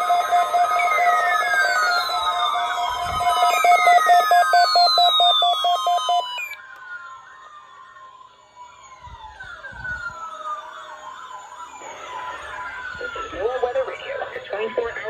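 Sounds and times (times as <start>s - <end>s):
falling siren-like sweeps: 0.0s - 15.0s.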